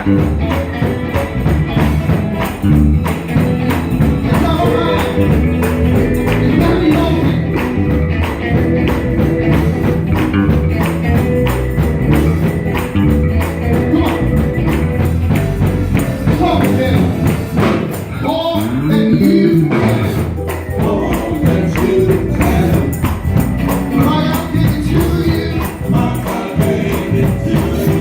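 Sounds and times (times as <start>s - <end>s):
gospel band playing: 0.0s - 28.0s
tambourine shaking: 0.0s - 28.0s.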